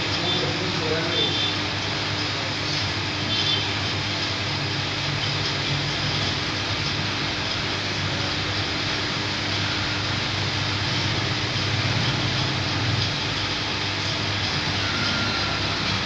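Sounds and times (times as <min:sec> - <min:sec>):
machine hum and hiss: 0:00.0 - 0:16.0.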